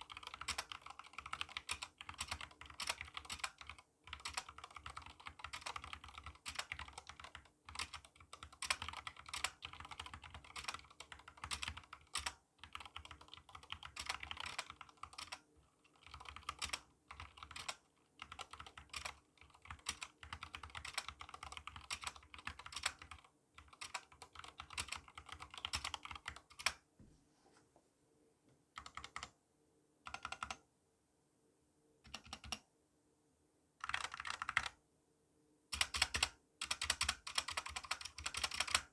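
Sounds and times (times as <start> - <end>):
mechanical keyboard typing: 0.0 - 26.8, 28.8 - 29.3, 30.1 - 30.6, 32.1 - 32.6, 33.8 - 34.8, 35.7 - 38.9.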